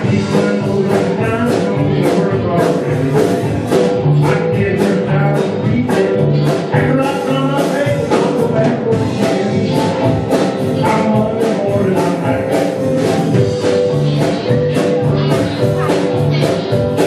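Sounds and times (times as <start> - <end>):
drum kit steady beat: 0.0 - 17.0
live band playing: 0.0 - 17.0
person singing: 0.0 - 17.0.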